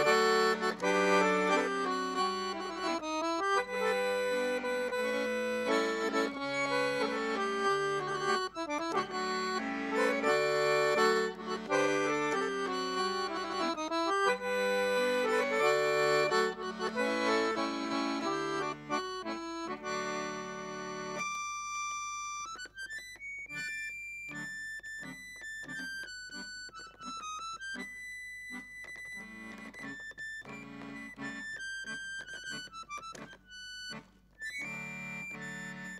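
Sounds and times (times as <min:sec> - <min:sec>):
accordion chords and bass: 0:00.0 - 0:35.9
accordion single-note melody: 0:00.0 - 0:35.9.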